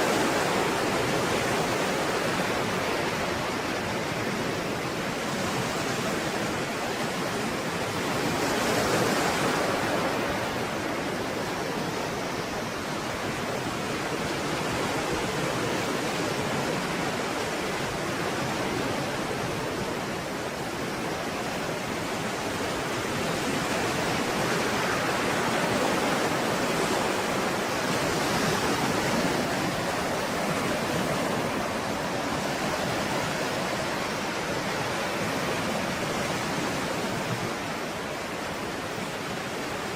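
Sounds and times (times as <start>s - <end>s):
stormy sea waves breaking: 0.0s - 39.9s.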